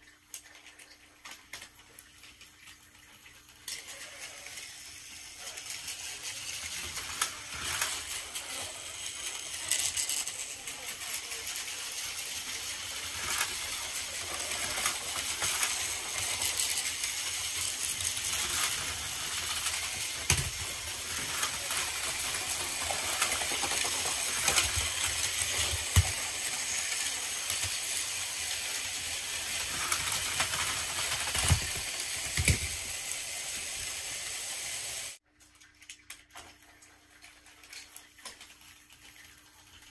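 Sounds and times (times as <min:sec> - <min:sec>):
toy trains whirring and clattering: 0:00.0 - 0:35.2, 0:36.4 - 0:39.9.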